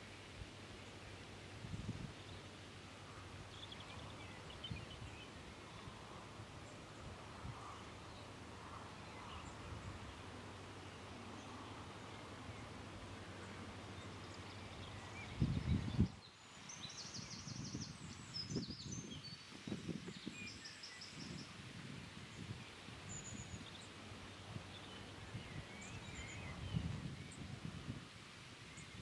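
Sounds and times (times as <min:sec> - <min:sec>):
low background noise: 0:00.0 - 0:29.0.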